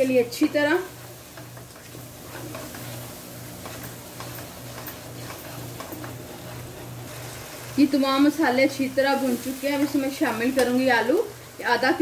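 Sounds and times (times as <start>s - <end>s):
spices sizzling: 0.0s - 12.0s
spatula scraping wok: 0.1s - 11.6s.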